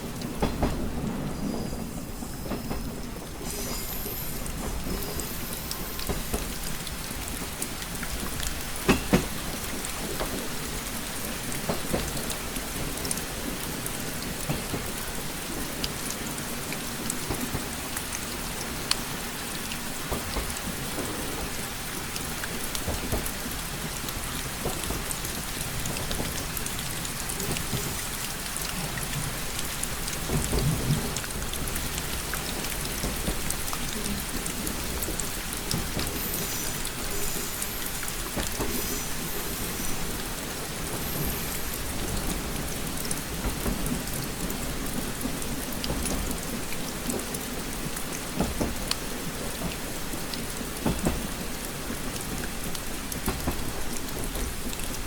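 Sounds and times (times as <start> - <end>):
rain pattering on window glass: 2.5 - 55.0.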